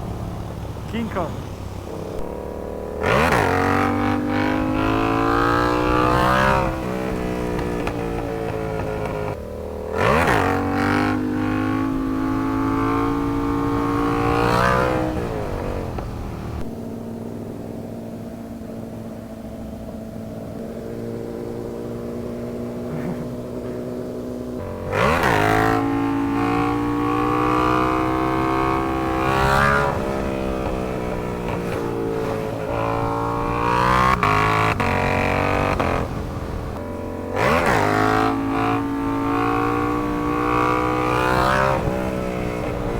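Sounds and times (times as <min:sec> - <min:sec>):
sportbike engine revving: 0:00.0 - 0:42.9.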